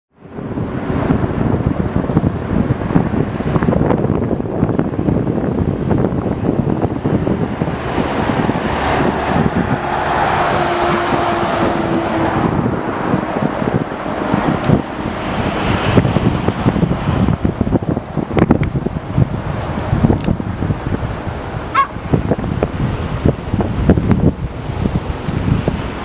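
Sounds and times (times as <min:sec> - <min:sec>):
wind buffeting microphone: 0:00.1 - 0:26.0
jet airliner engine noise: 0:00.2 - 0:26.0.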